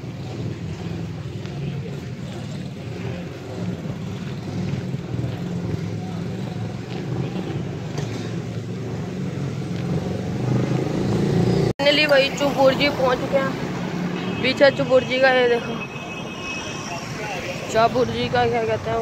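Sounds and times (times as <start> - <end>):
road traffic engines: 0.0 - 19.0.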